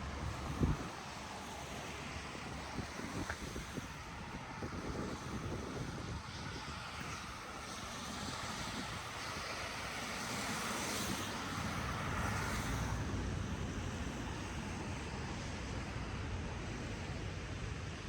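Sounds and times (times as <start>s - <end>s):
car tyres hissing on snow: 0.0s - 17.4s.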